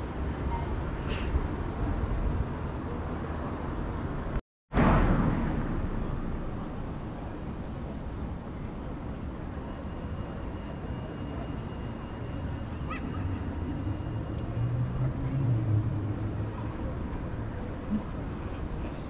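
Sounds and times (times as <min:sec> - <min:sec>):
city road traffic rumble: 0:00.0 - 0:19.0.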